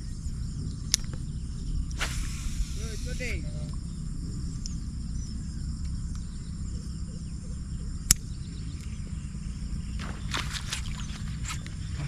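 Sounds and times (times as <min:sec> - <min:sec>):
insects chirring: 0:00.0 - 0:12.0
wind rumble on microphone: 0:00.0 - 0:12.0.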